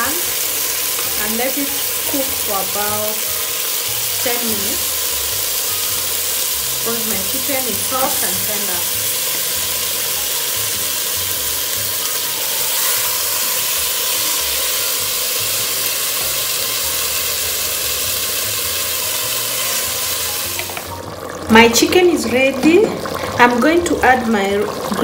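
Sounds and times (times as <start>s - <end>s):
chicken sizzling in a pot: 0.0s - 25.0s.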